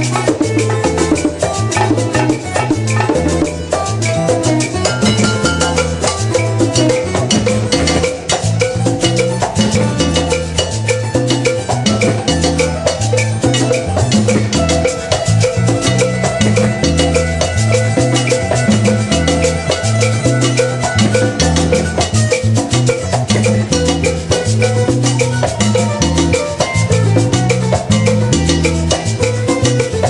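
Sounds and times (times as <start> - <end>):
bass line: 0.0 - 30.0
busy percussion: 0.0 - 30.0
salsa band playing: 0.0 - 30.0.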